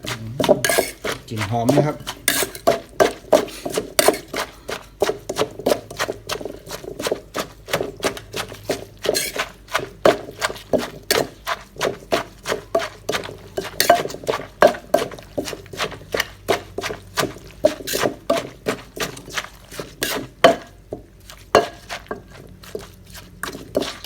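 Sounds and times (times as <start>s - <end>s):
pestle pounding in a mortar: 0.0s - 24.0s.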